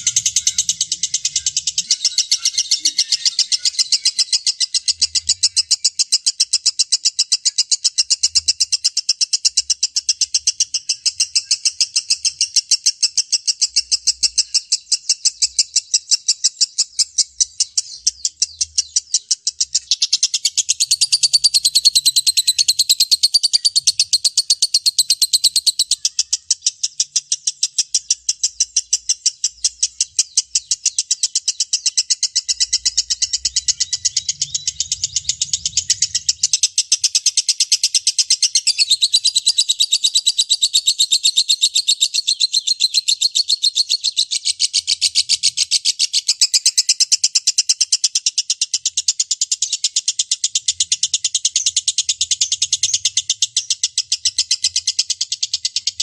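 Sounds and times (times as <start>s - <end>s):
higher bird chatter: 0.0s - 56.0s
lovebird chattering trill: 0.0s - 56.0s.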